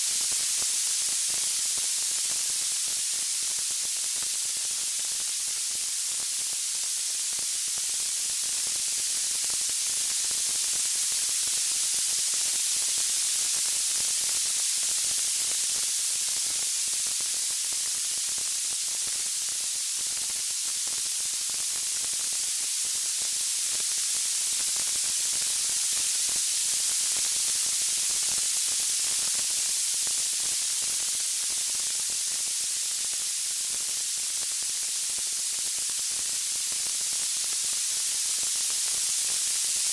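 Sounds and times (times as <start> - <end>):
high-pitched white-noise hiss: 0.0 - 39.9.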